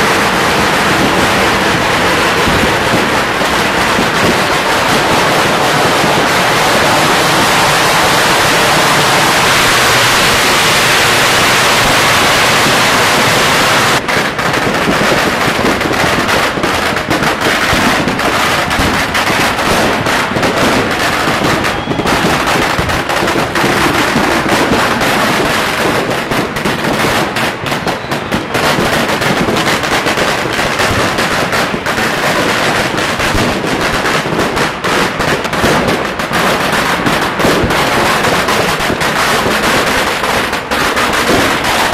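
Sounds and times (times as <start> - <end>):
firecrackers and fireworks banging: 0.0 - 41.9.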